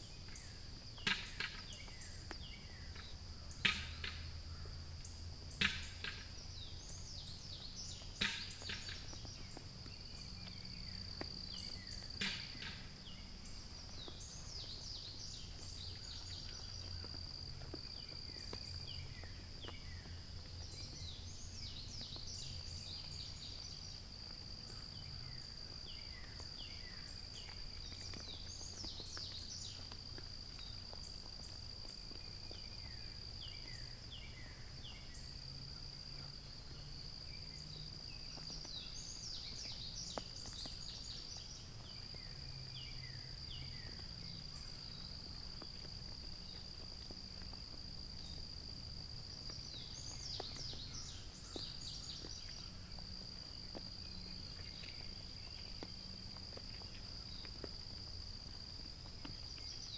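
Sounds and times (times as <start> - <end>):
birds chirping: 0.0 - 47.5, 49.4 - 56.0
insects droning: 0.0 - 59.9.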